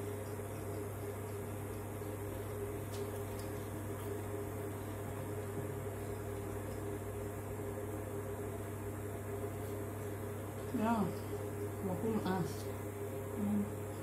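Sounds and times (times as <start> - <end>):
appliance electrical hum: 0.0 - 14.0.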